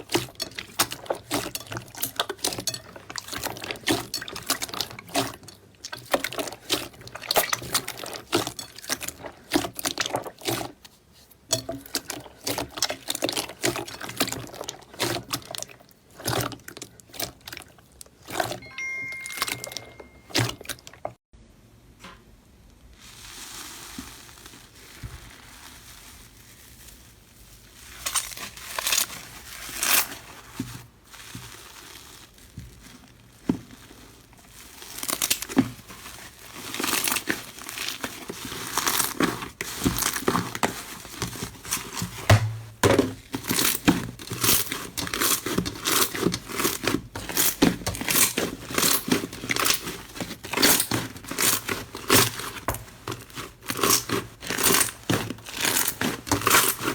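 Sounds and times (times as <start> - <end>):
slime crackling by hand: 0.0 - 19.5, 22.9 - 56.9.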